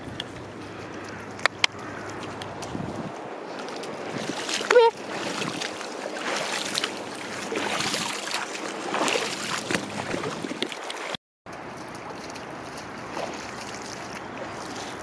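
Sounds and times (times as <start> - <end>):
feet wading through water: 0.0 - 15.0
shallow water rushing: 0.0 - 15.0.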